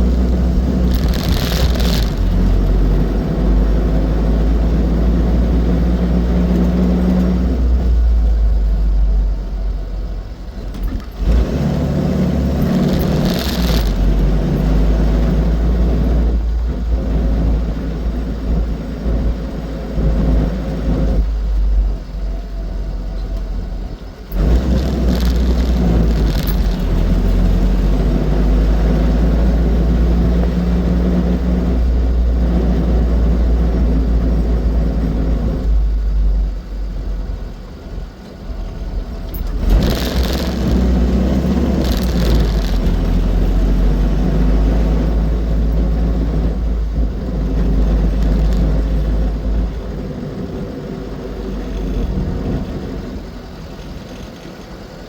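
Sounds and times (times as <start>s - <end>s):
car engine running: 0.0s - 55.0s
road and wind rumble: 0.0s - 55.0s.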